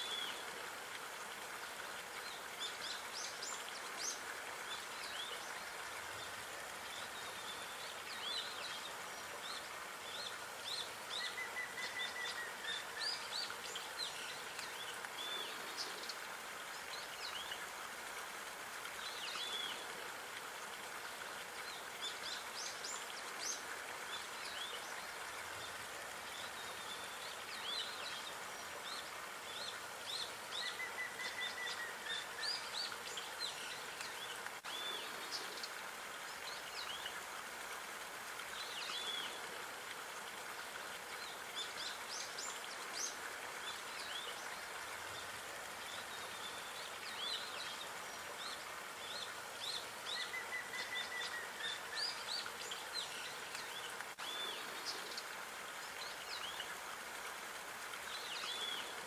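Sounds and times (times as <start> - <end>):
outdoor hiss: 0.0 - 59.0.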